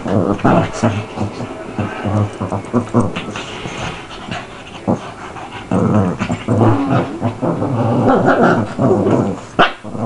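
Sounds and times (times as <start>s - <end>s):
dogs growling: 0.0s - 10.0s.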